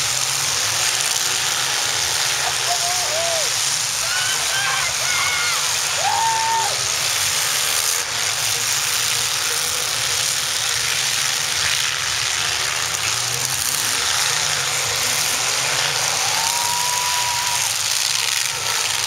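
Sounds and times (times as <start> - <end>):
car engines running: 0.0 - 19.0.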